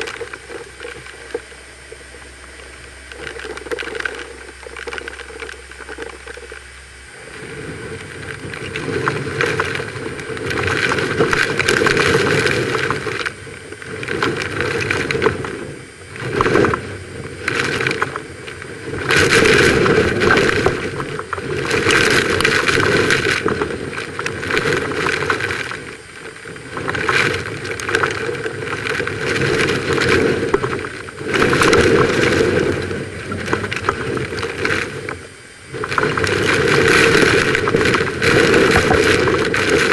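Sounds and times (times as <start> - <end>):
driving rain: 0.0 - 39.9
strong gusting wind: 0.0 - 39.9.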